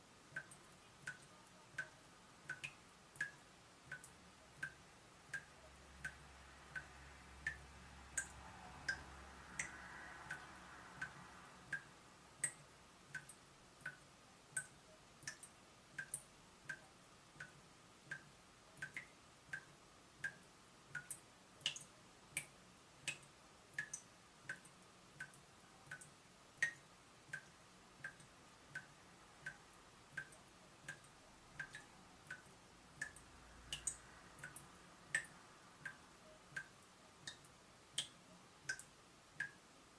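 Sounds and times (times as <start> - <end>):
water dripping from a tap: 0.3 - 39.7.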